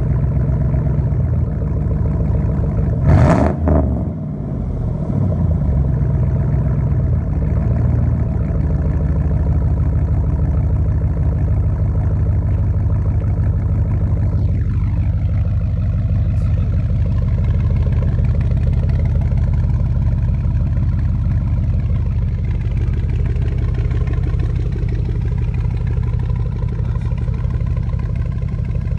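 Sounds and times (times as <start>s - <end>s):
truck exhaust idling: 0.0s - 28.9s.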